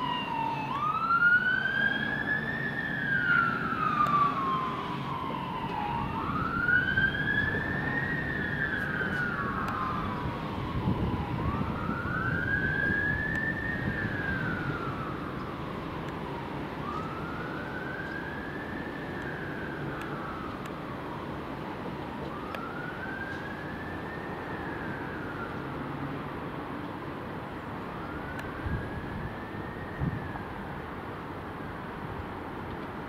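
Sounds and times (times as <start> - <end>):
emergency sirens wailing: 0.0 - 33.0
road traffic rumble: 0.0 - 33.0.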